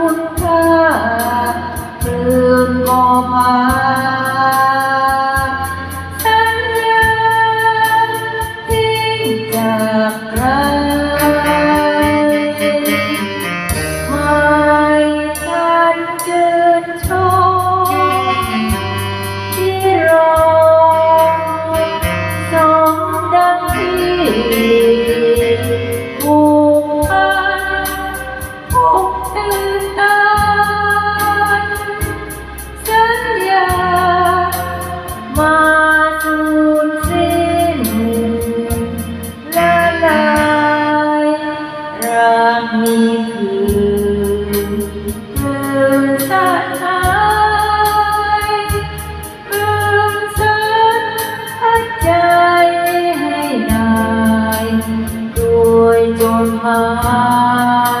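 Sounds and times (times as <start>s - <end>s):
ticking cymbal beat: 0.0s - 41.2s, 42.0s - 58.0s
karaoke backing track: 0.0s - 58.0s
woman singing into microphone: 0.0s - 58.0s.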